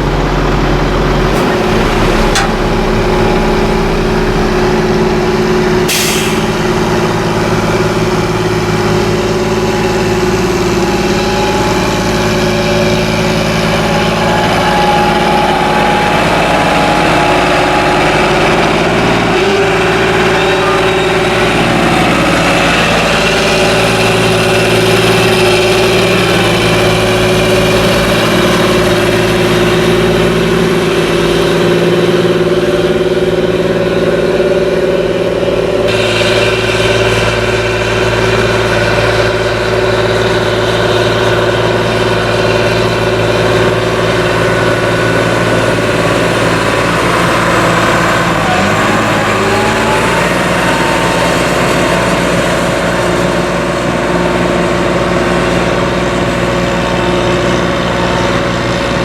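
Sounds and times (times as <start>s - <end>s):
diesel farm machinery running: 0.0s - 59.0s.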